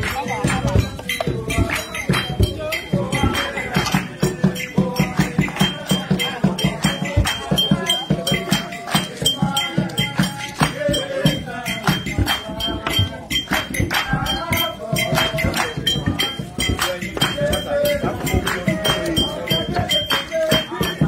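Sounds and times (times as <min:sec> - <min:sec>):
music with fast percussion: 0:00.0 - 0:21.0.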